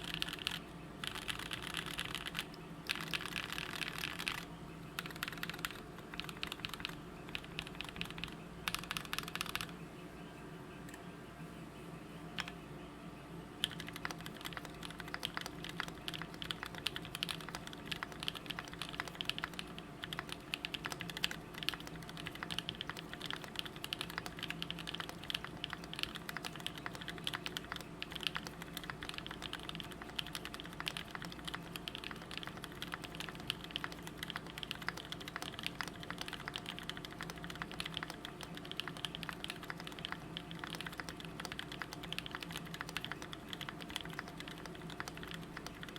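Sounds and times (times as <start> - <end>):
mechanical keyboard clacking: 0.0 - 4.4, 5.0 - 9.7, 13.6 - 45.9.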